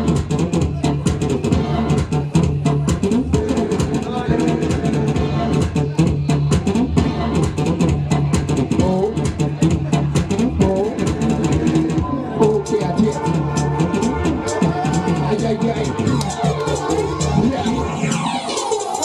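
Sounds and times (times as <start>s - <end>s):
electronic dance music: 0.0s - 19.0s.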